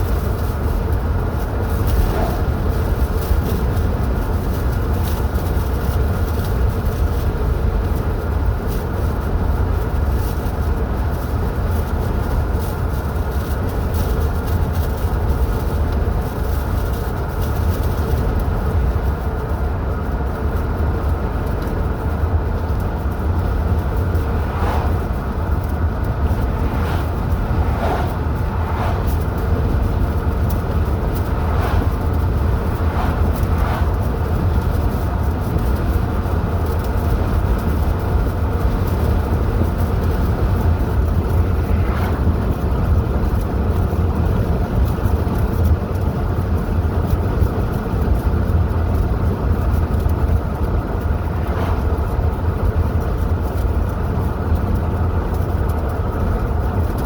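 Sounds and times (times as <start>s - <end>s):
car driving on highway: 0.0s - 57.0s.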